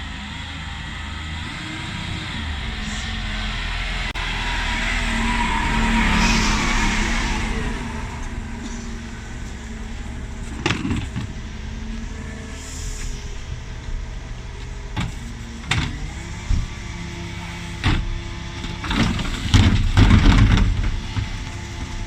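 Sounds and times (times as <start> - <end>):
refuse truck engine: 0.0 - 22.0
rushing noise: 0.0 - 22.0.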